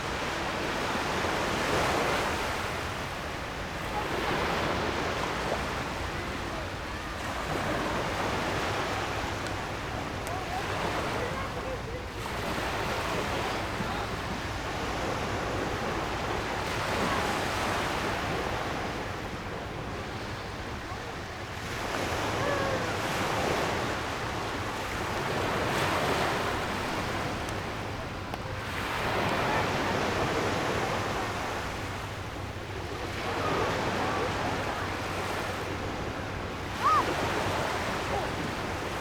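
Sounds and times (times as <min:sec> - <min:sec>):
surf washing ashore: 0:00.0 - 0:39.0
faint distant voices: 0:03.6 - 0:19.0, 0:19.8 - 0:39.0.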